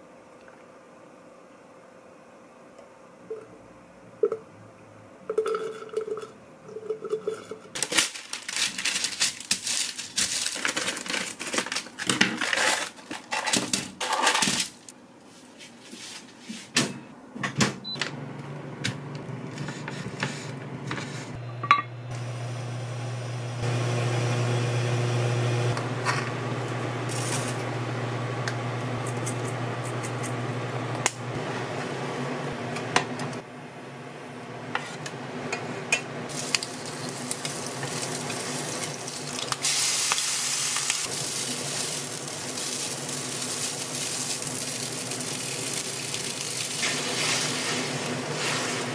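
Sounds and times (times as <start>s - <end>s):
appliance hum: 0.0s - 48.9s.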